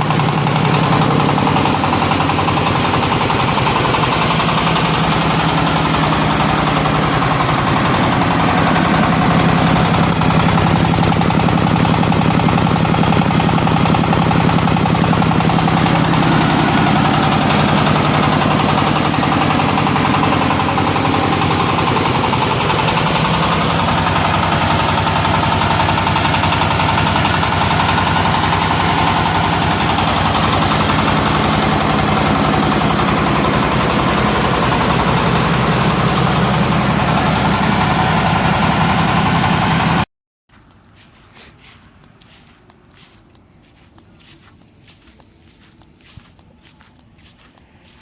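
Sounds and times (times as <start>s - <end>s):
corn sheller machine running: 0.0s - 40.0s.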